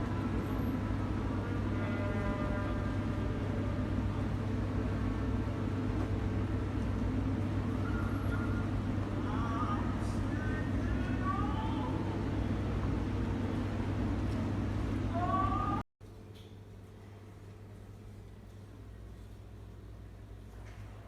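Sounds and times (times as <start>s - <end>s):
low rumble of traffic: 0.0s - 21.0s.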